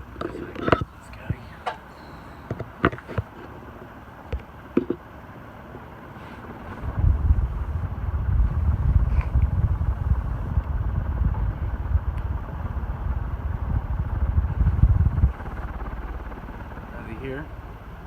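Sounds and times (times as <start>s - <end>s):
fan wind buffeting microphone: 0.0s - 18.0s.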